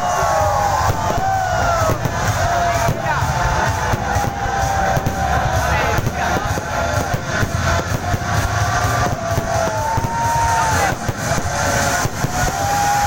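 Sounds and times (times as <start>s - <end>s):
outdoor crowd noise: 0.0s - 13.0s
traffic engines running: 0.1s - 13.0s.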